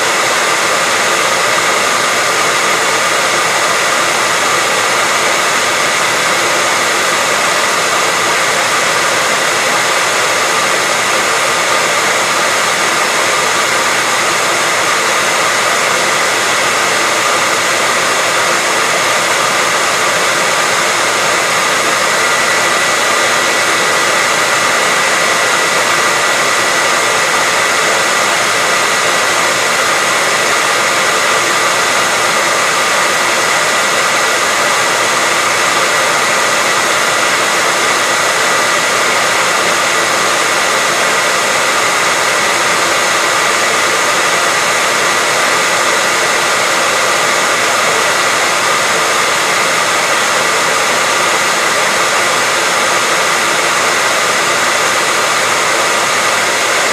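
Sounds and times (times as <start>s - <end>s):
hair dryer running: 0.0s - 56.9s.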